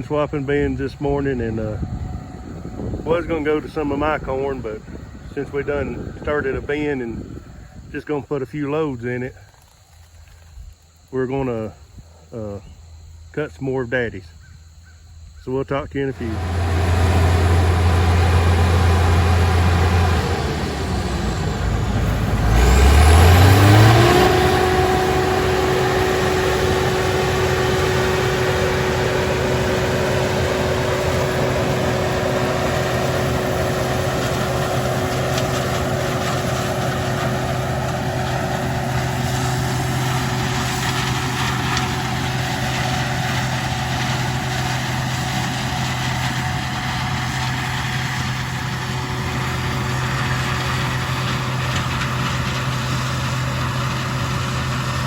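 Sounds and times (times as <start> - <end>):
diesel engine revving: 0.0 - 8.4, 16.0 - 55.0
machinery whine: 0.0 - 9.1, 15.9 - 55.0.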